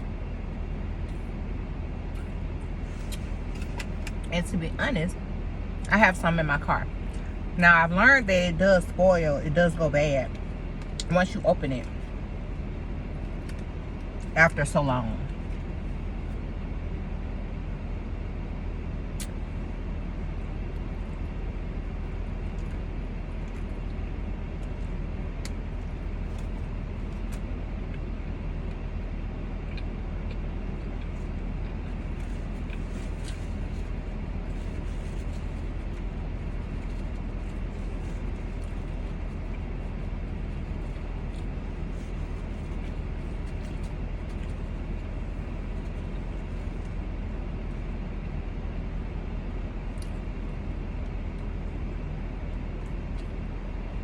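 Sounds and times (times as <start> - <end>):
car cabin engine hum: 0.0 - 54.0.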